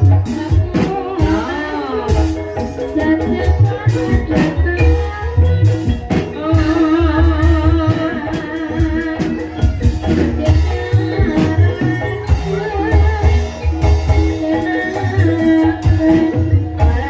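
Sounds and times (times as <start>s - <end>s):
gamelan music: 0.0s - 17.0s
person singing: 0.0s - 17.0s.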